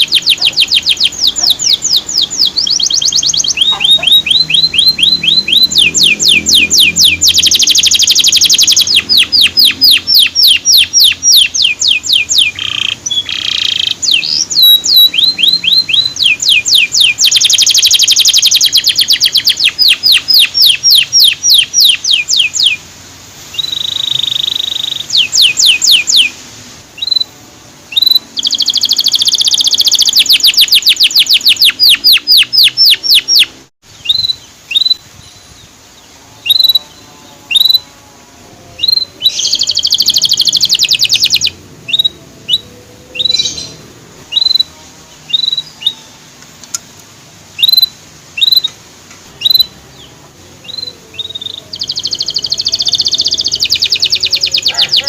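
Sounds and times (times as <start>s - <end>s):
canary singing: 0.0s - 22.9s, 23.5s - 46.9s, 47.5s - 55.0s.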